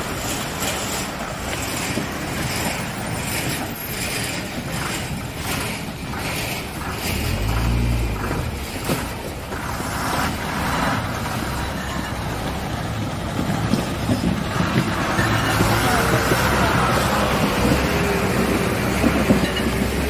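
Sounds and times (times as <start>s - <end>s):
truck diesel engine rumbling: 0.0s - 20.0s
water washing: 0.0s - 20.0s.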